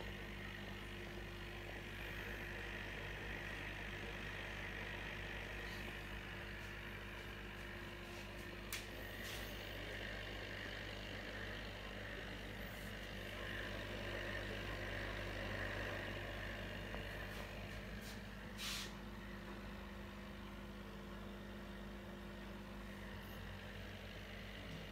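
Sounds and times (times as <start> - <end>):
electric pump hum: 0.0 - 24.9.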